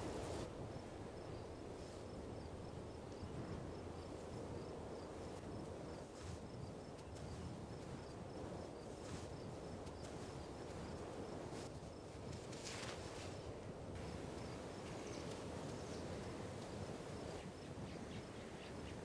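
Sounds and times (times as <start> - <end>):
insect chirping: 0.6 - 12.9, 14.0 - 19.0.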